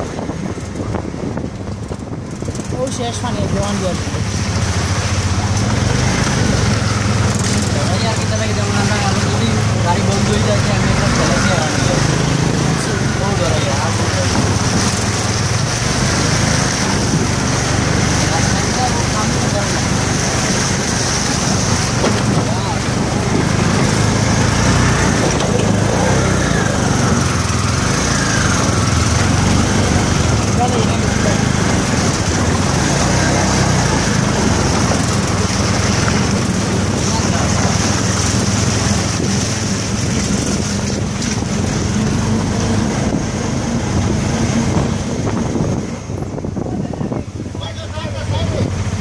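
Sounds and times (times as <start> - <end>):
wind on microphone: 0.0 - 7.8, 10.8 - 49.0
vehicle moving through water: 0.0 - 49.0.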